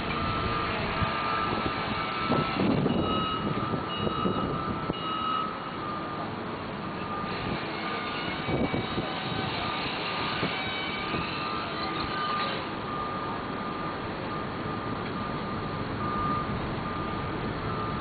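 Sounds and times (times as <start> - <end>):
traffic din: 0.0 - 18.0.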